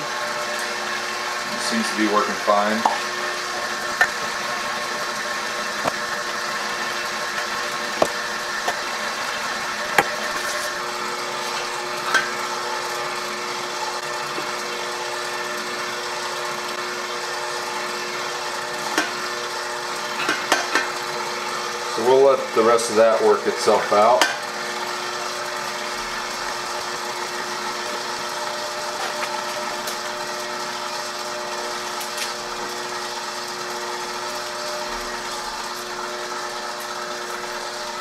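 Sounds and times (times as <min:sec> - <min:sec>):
stand mixer motor whining: 0:00.0 - 0:38.0.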